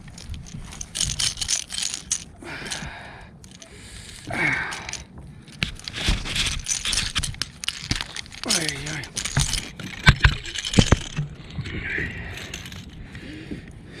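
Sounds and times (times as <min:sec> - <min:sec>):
hands working hooks with clicks: 0:00.0 - 0:13.8.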